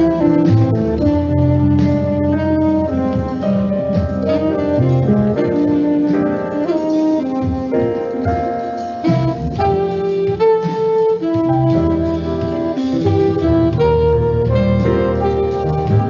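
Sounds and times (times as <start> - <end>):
piano: 0.0 - 16.0.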